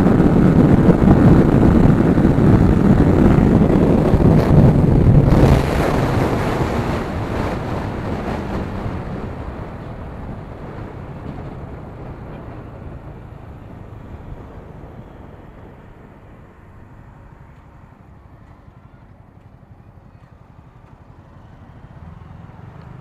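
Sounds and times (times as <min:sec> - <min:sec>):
wind rushing over microphone: 0:00.0 - 0:18.4.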